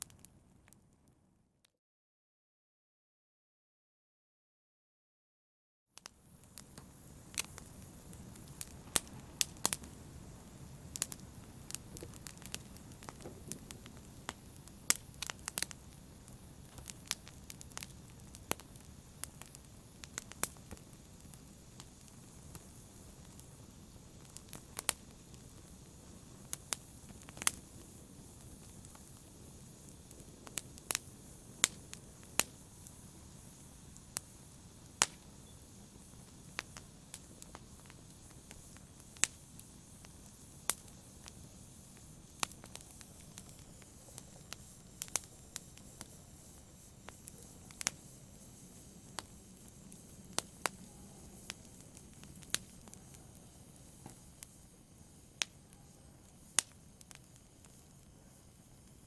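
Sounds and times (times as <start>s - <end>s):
fire crackling and popping: 0.0s - 1.1s, 6.0s - 59.0s
low rush of fire: 6.0s - 59.0s.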